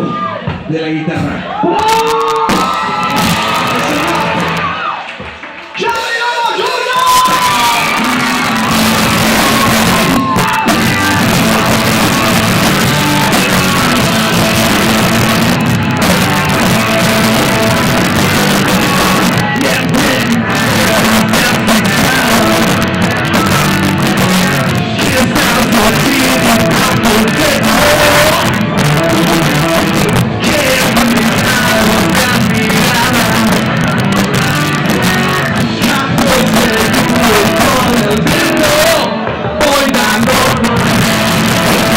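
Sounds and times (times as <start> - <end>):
rock song with singing: 0.0 - 41.9.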